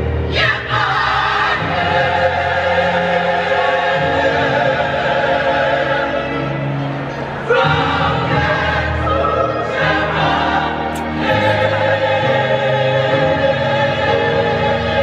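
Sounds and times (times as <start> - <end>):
choir singing held chords: 0.0 - 15.0.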